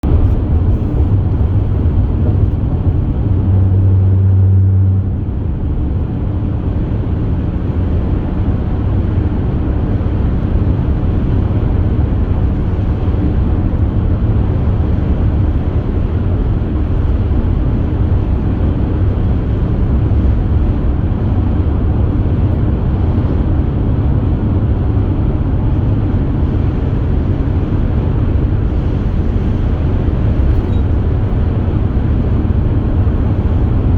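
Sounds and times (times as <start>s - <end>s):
car road and engine rumble: 0.0s - 33.9s
low hum: 0.0s - 33.9s.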